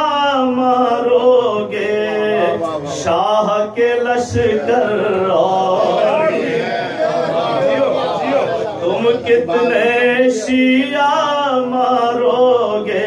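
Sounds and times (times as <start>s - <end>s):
man chanting verse: 0.0s - 13.0s.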